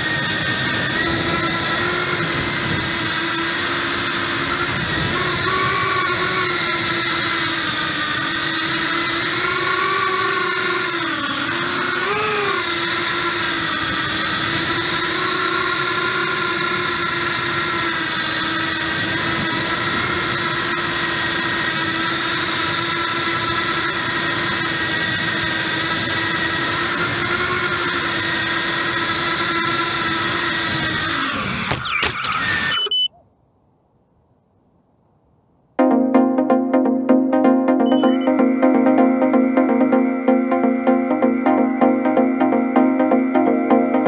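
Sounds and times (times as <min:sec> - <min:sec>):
drone motors whining: 0:00.0 - 0:33.1, 0:37.9 - 0:44.0.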